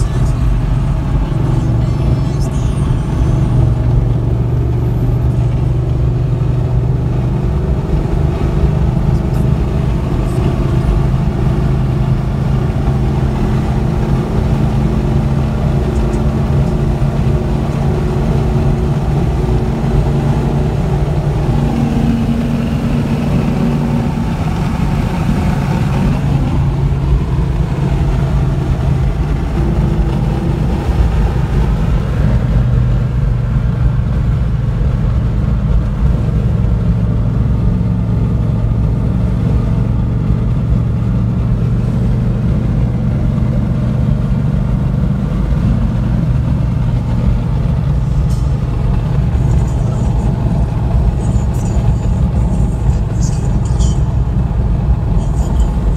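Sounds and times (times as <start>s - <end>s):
car engine drone: 0.0s - 55.9s
road noise: 0.0s - 55.9s.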